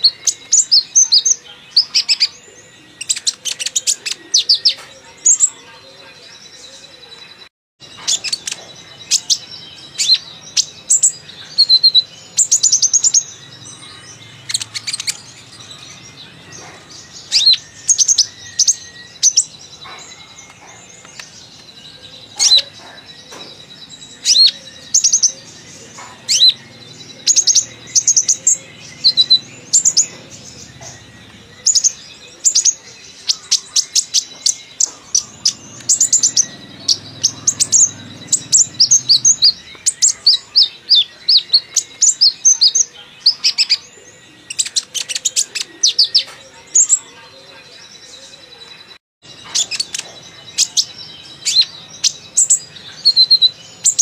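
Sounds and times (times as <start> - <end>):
sunbird chirping and trilling: 0.0 - 54.0.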